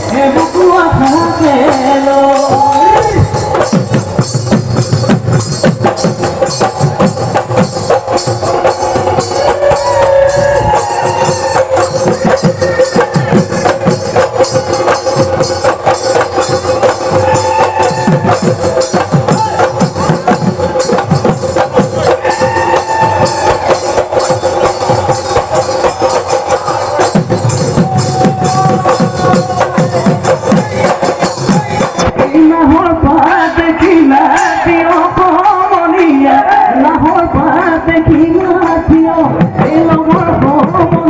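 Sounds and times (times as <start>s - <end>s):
drums in fast rhythm: 0.0s - 41.0s.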